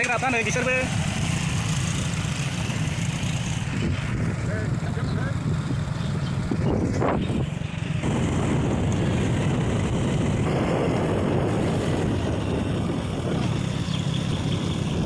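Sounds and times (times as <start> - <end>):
vehicle engine and road rumble: 0.0 - 15.0
wind buffeting microphone: 1.6 - 15.0.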